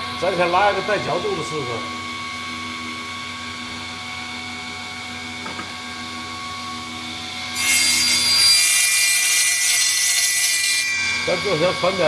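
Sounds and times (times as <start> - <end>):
table saw running: 0.0 - 12.0.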